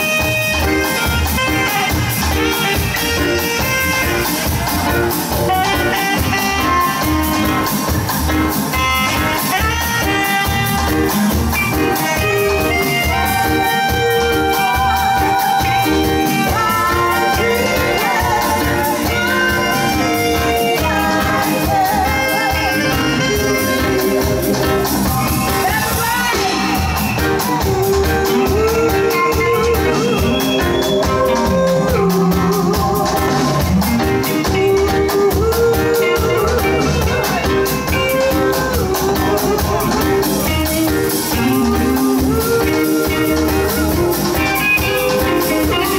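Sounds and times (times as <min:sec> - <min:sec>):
bass: 0:00.0 - 0:45.9
drums: 0:00.0 - 0:45.9
saxophone melody: 0:00.0 - 0:45.9.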